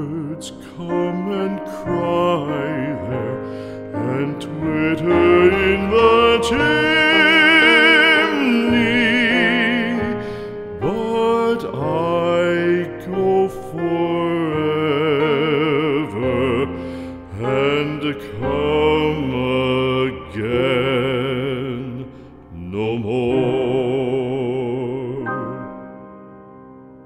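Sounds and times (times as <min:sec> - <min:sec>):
held accompaniment: 0:00.9 - 0:27.0.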